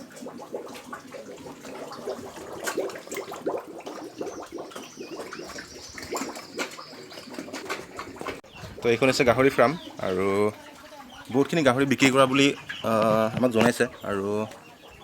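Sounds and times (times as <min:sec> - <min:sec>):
pigs slurping and chewing: 0:00.0 - 0:15.0.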